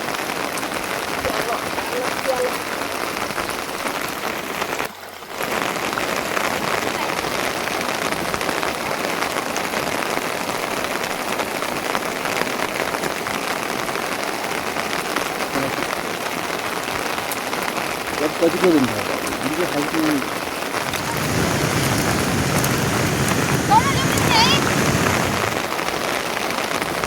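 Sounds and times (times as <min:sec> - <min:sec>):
steady rain patter: 0:00.0 - 0:27.0.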